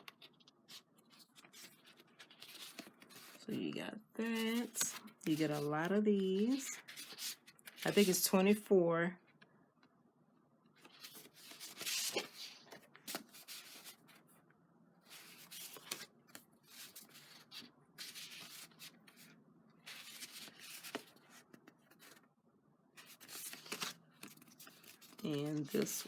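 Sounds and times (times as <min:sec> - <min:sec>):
card stock rustling: 0:00.0 - 0:08.2, 0:10.8 - 0:14.2, 0:15.0 - 0:22.2, 0:23.0 - 0:26.0.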